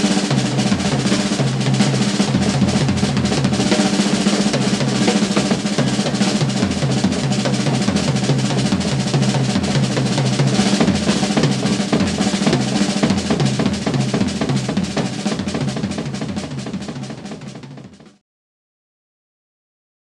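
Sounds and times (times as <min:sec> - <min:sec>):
fast drum solo: 0:00.0 - 0:18.2.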